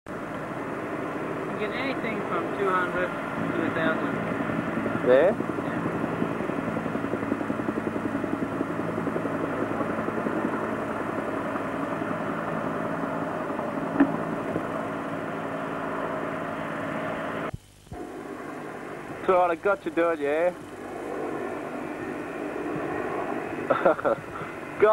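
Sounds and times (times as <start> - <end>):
helicopter engine tone: 0.1 - 24.9
helicopter rotor beat: 0.1 - 24.9.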